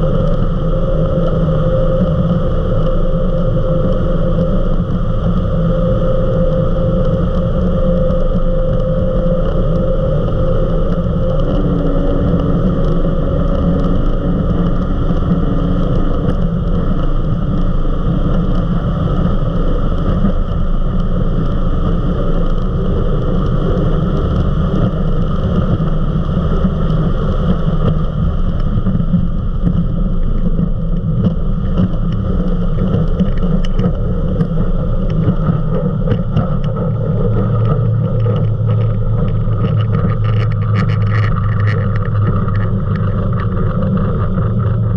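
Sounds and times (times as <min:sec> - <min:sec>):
powerboat engine drone: 0:00.0 - 0:44.9
rushing wind and water: 0:00.0 - 0:44.9.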